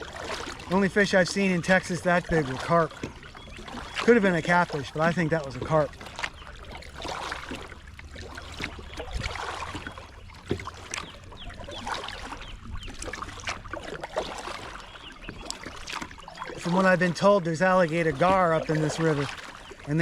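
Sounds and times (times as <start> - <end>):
paddling: 0.0 - 20.0
water splashing and dripping: 0.0 - 20.0.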